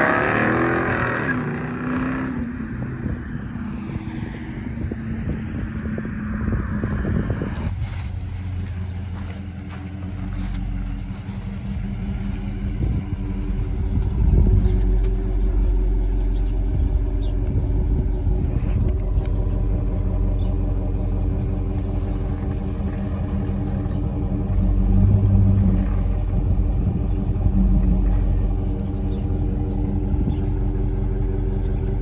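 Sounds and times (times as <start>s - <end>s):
low car exhaust note: 0.0s - 32.0s.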